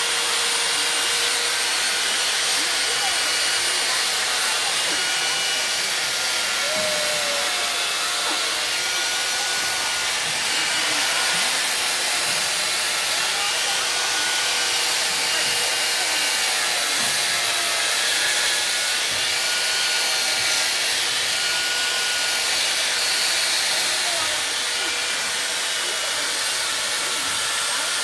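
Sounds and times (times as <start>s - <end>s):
power tool grinding ice: 0.0s - 28.0s.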